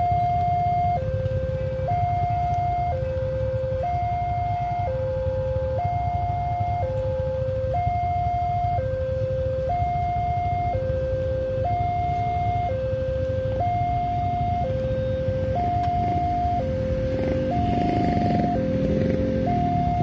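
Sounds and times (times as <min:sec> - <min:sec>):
level crossing two-tone alarm: 0:00.0 - 0:20.0.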